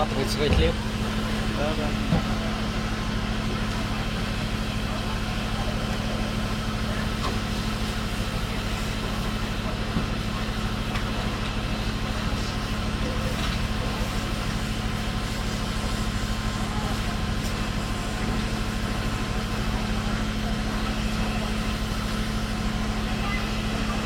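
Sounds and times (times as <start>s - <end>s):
large vehicle engine idling: 0.0s - 24.0s.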